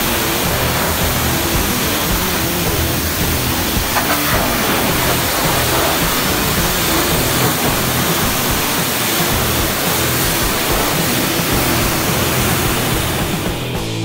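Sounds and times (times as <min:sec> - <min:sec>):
background music: 0:00.0 - 0:14.0
pressure washer spraying water: 0:00.0 - 0:14.0.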